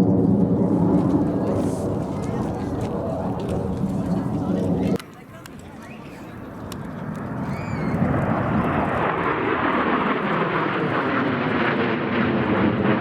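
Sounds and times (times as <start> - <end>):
airplane flying overhead: 0.0 - 13.0.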